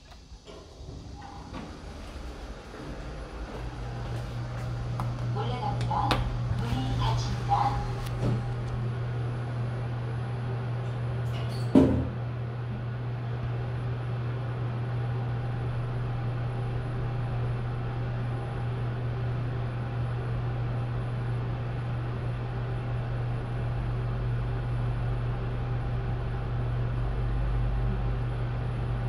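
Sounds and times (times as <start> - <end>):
elevator hum: 0.0 - 29.0.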